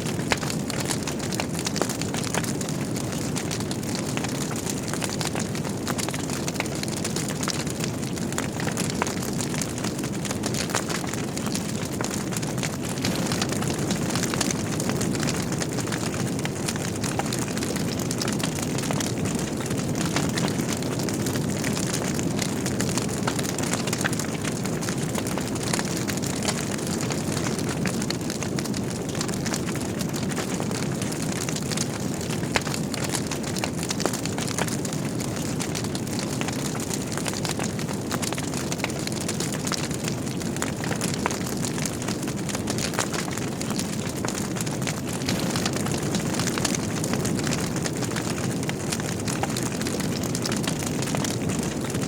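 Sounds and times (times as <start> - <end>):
logs crackling and popping: 0.0 - 52.0
fire rushing: 0.1 - 52.0.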